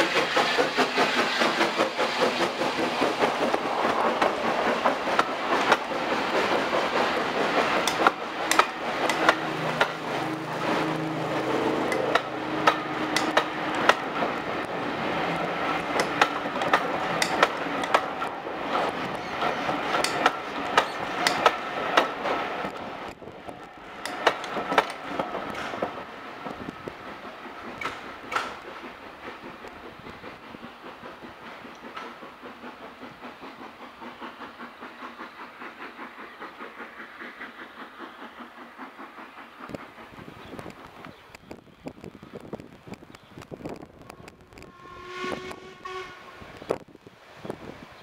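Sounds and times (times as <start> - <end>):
train wheels clicking over rail joints: 0.0 - 48.0.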